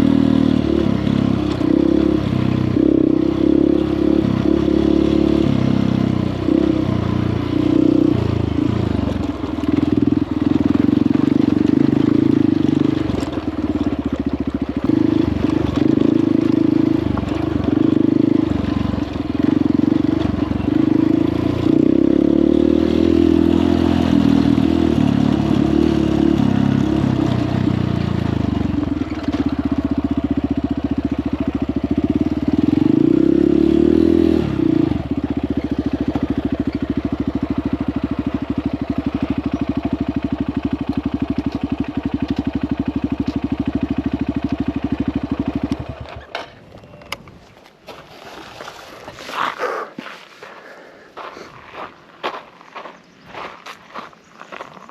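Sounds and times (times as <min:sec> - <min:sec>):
dirt bike engine revving: 0:00.0 - 0:46.3.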